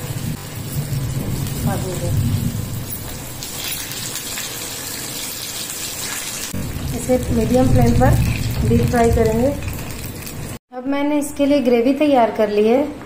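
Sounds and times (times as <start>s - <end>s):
oil sizzling and crackling: 0.0s - 10.6s.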